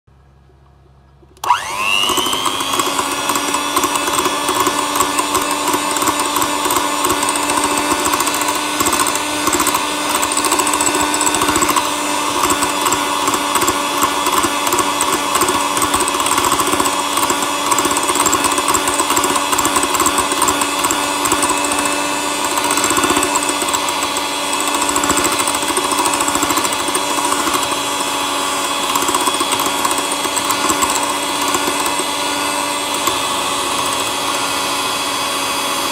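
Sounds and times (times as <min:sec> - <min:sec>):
electric mixer motor whining: 0:01.4 - 0:35.9.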